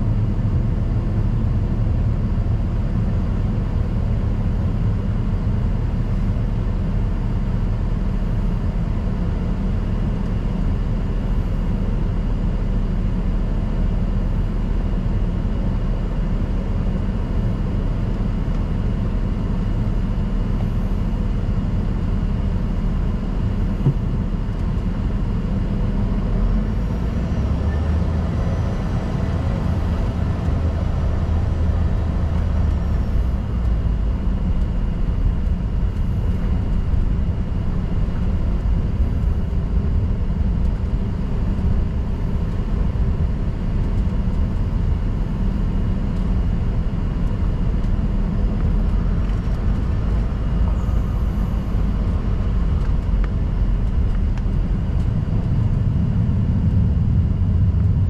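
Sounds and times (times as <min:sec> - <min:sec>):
jet cabin low rumble: 0:00.0 - 0:58.0.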